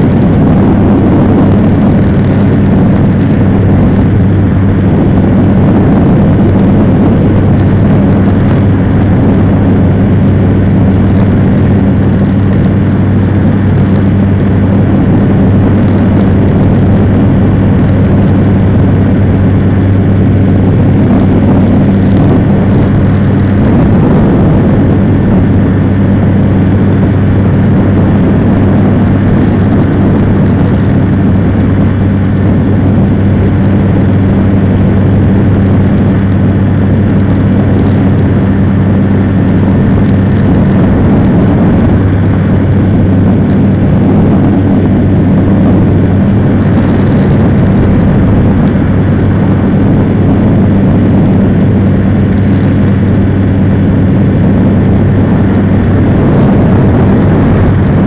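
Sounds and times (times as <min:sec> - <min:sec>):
rush of air: 0:00.0 - 0:58.0
ultralight engine and propeller: 0:00.0 - 0:58.0.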